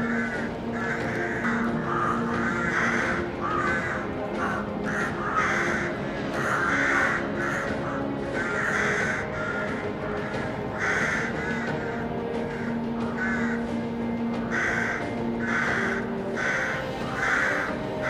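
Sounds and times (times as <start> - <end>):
background music with low held notes: 0.0 - 18.0
rooks cawing: 0.0 - 18.0.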